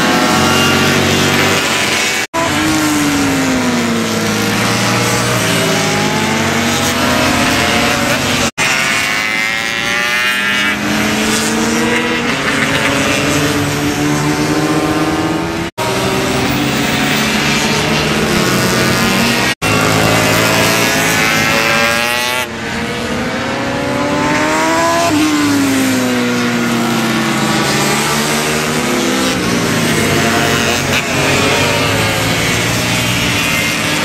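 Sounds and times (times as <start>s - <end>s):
racing motorcycles passing: 0.0s - 34.0s.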